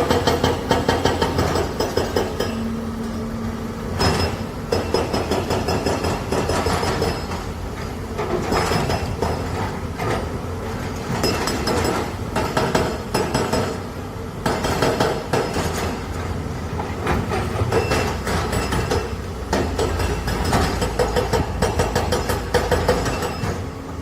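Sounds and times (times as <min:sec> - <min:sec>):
excavator rumbling: 0:00.0 - 0:24.0.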